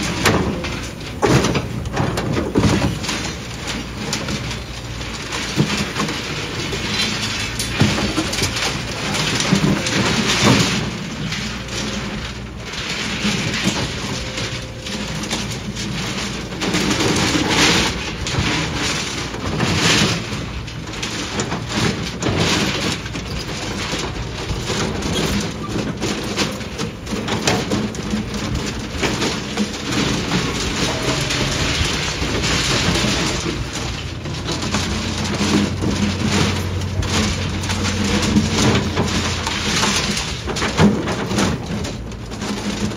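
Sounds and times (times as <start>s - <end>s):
concrete crunching and cracking: 0.0s - 42.9s
excavator diesel engine under load: 0.0s - 42.9s.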